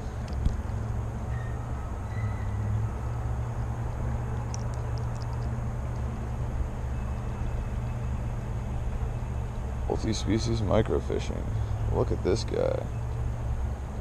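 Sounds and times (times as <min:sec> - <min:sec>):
distant machinery drone: 0:00.0 - 0:14.0.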